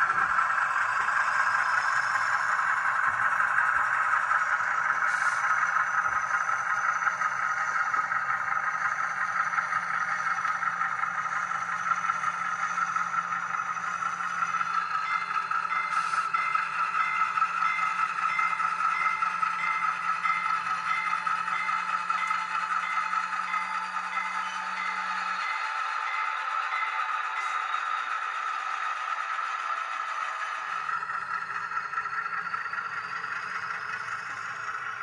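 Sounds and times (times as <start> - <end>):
model train wheels rattling: 0.0 - 35.0.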